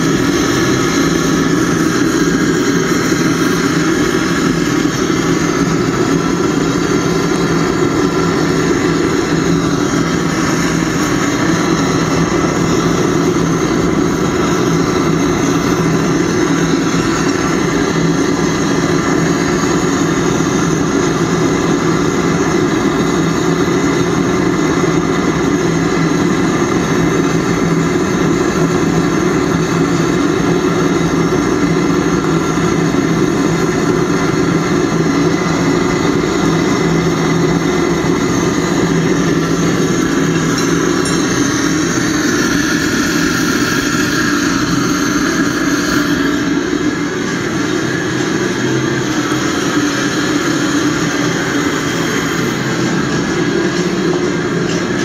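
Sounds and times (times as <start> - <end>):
furnace burner roar: 0.0 - 55.0.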